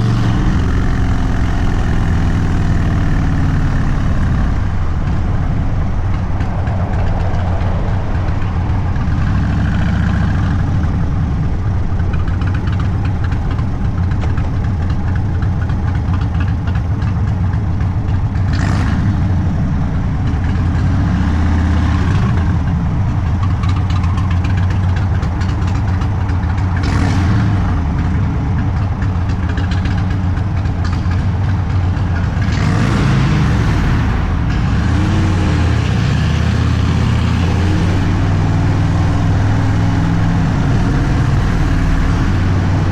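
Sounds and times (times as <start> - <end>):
motorcycle engine deep rumble: 0.0 - 42.9.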